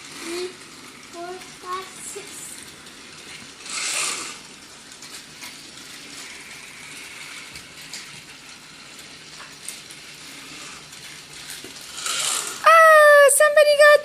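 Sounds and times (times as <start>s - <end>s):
toy train motors whirring: 0.0s - 14.0s.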